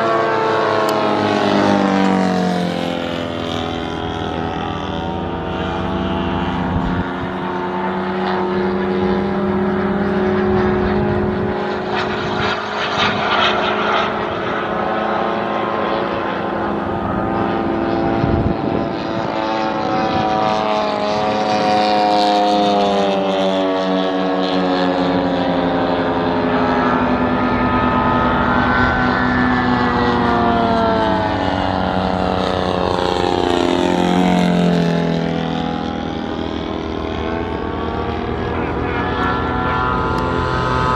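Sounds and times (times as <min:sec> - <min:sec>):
model plane engine in flight: 0:00.0 - 0:40.9.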